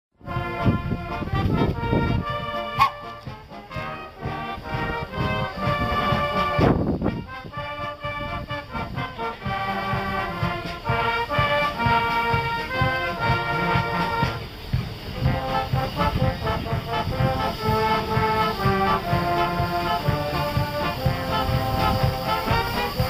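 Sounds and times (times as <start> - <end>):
brass band playing: 0.2 - 23.0.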